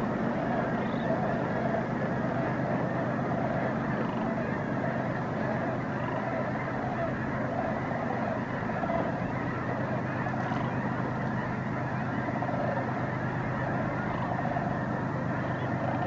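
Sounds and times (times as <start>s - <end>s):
geese and cranes calling: 0.0s - 16.0s.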